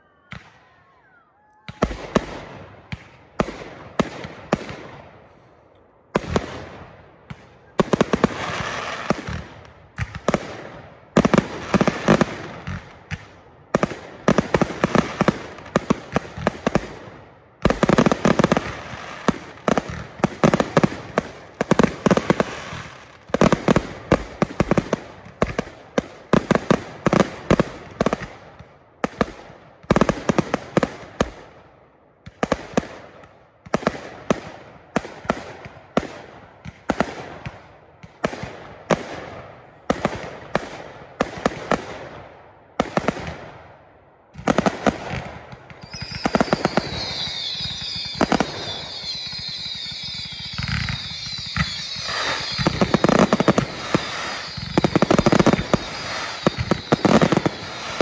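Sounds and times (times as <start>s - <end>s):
fireworks bangs and crackling: 0.2s - 58.0s.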